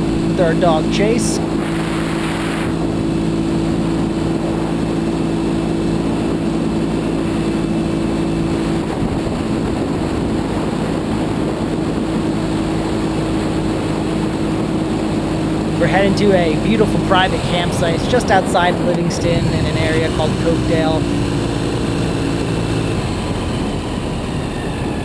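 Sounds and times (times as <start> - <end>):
motorcycle engine drone: 0.0 - 25.0
wind rush: 0.0 - 25.0.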